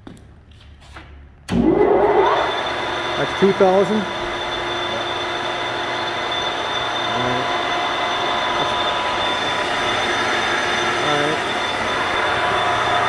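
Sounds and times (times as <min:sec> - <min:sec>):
lathe whining and humming: 0:01.5 - 0:13.0.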